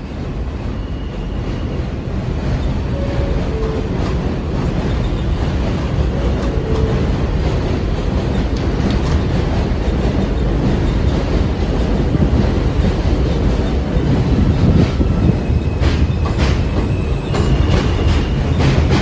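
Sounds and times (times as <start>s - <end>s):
subway train running: 0.0s - 19.0s
wheels clacking over rail joints: 2.0s - 19.0s.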